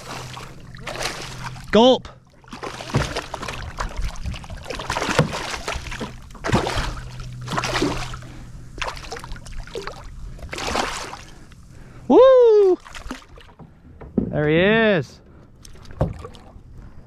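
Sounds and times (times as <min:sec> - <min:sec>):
water splashing beside kayak: 0:00.0 - 0:14.0, 0:15.6 - 0:16.8.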